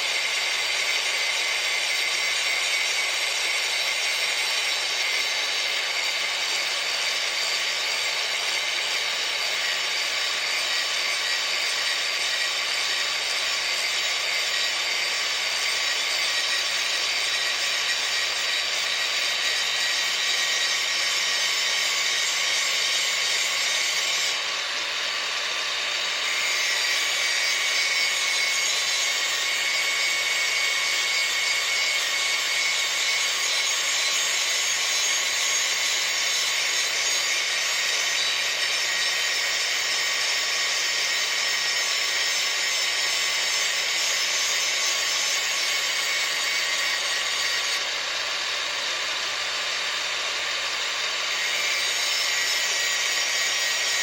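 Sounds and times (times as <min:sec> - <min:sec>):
grinder sharpening steel blade: 0:00.0 - 0:54.0.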